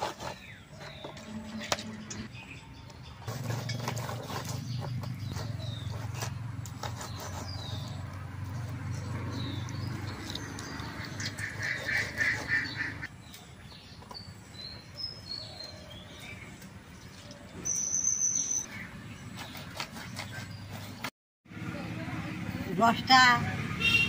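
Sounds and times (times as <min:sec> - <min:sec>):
birds chirping: 0:00.0 - 0:21.1.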